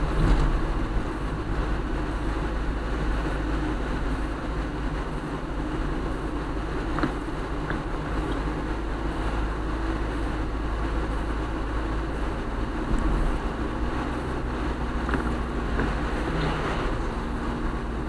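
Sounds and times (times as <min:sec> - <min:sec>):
car road noise rumble: 0:00.0 - 0:18.0
tyres hissing on wet road: 0:00.0 - 0:18.0.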